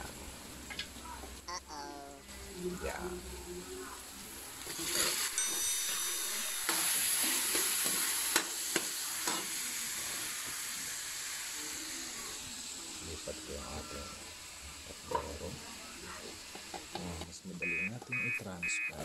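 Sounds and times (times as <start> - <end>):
food sizzling in hot oil: 0.0 - 1.5, 2.2 - 18.6.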